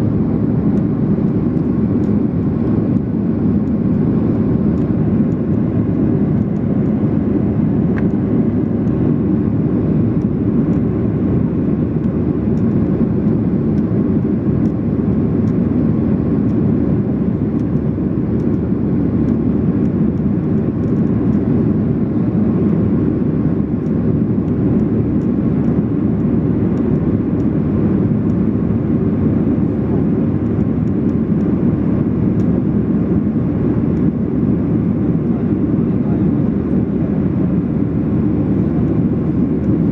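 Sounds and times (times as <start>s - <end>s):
cabin airflow: 0.0s - 39.9s
jet engines rumbling: 0.0s - 39.9s.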